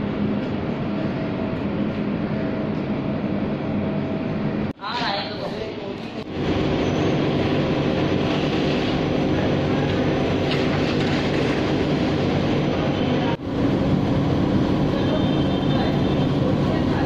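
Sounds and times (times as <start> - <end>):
laundry machinery droning: 0.0 - 17.0.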